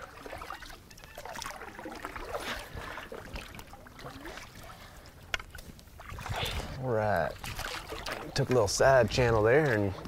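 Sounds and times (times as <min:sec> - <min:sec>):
paddle dipping in water: 0:00.0 - 0:10.0
water trickling and dripping: 0:00.0 - 0:10.0.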